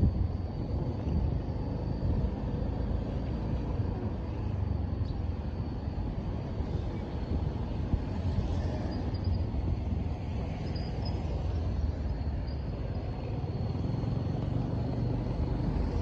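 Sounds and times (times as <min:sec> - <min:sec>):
wind on microphone: 0:00.0 - 0:13.6.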